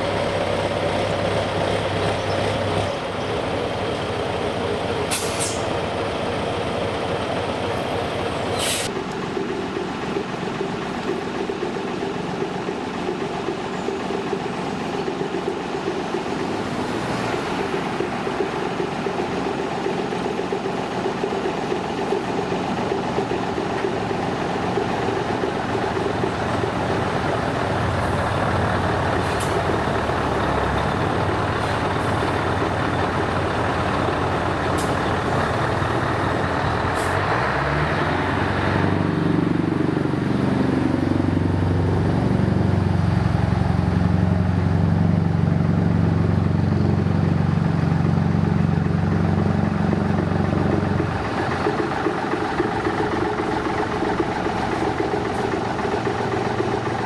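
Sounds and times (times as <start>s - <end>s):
diesel truck engine driving past: 0.0s - 57.0s.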